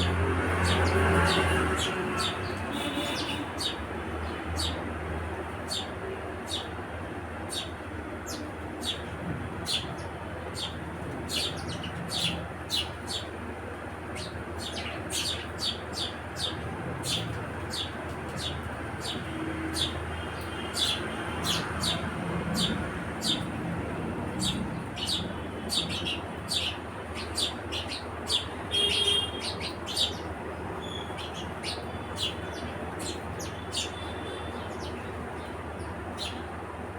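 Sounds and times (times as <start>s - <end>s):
sparrows chirping: 0.0s - 36.9s.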